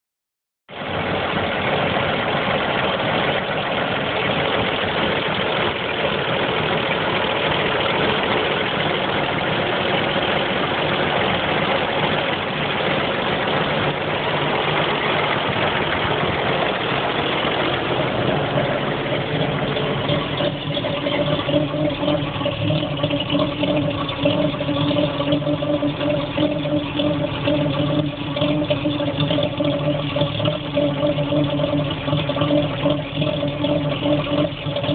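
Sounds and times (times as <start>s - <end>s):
truck engine knocking: 0.7s - 34.9s.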